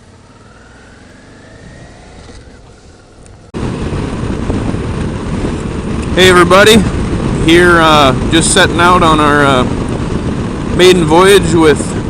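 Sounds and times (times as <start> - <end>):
faint rising whine: 0.0 - 12.0
motorcycle engine running: 0.0 - 12.0
wind rushing over microphone: 0.0 - 12.0.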